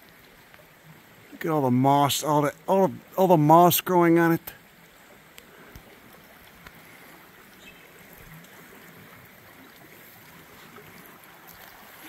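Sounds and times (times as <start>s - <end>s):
creek babbling: 0.0s - 12.0s.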